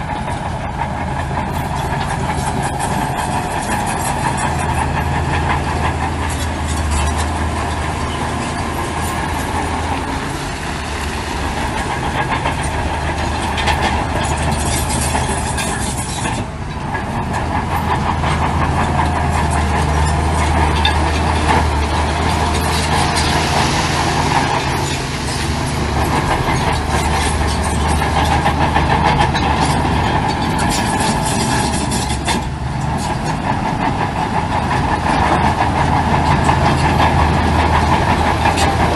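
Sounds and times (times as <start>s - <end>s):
bulldozer engine droning: 0.0s - 38.9s
steel tracks clattering: 0.0s - 38.9s.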